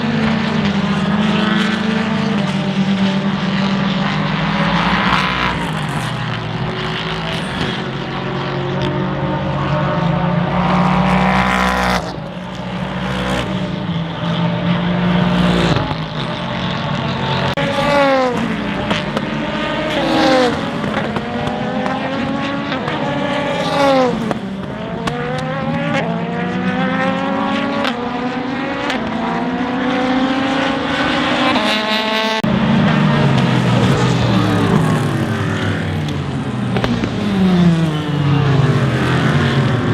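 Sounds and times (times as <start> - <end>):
race cars passing at speed: 0.0 - 39.9.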